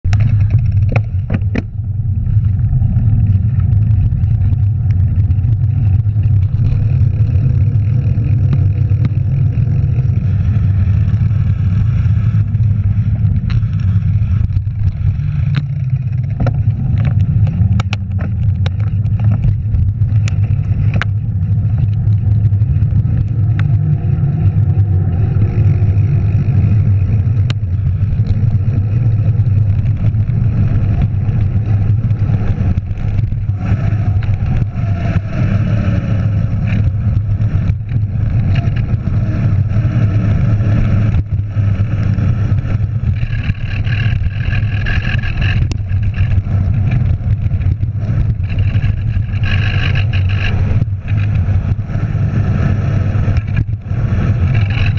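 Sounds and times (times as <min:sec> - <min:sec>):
wind buffeting microphone: 0:00.0 - 0:54.9
bike clicks and rattles: 0:00.1 - 0:54.9.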